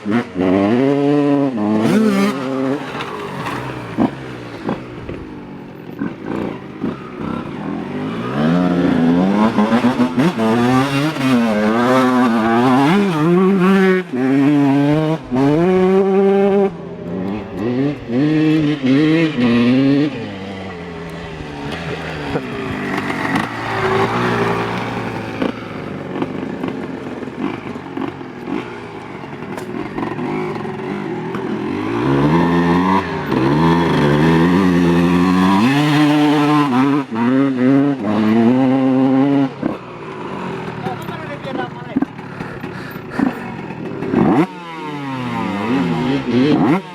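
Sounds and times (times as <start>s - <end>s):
motocross engine revving: 0.0s - 46.9s.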